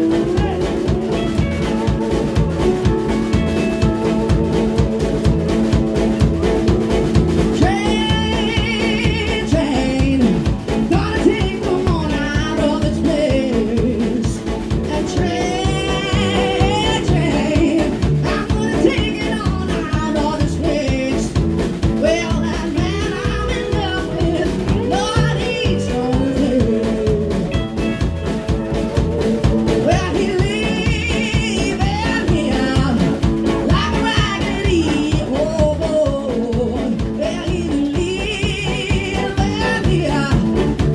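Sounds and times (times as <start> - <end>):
woman singing with vibrato: 0.0 - 5.4, 7.4 - 28.0, 29.1 - 40.7
drum kit beat: 0.0 - 40.9
electric guitar: 0.0 - 40.9.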